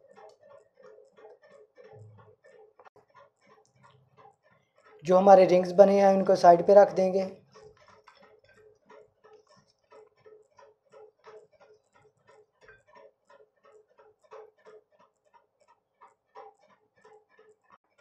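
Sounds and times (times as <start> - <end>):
faint regular ticking: 0.0 - 18.0.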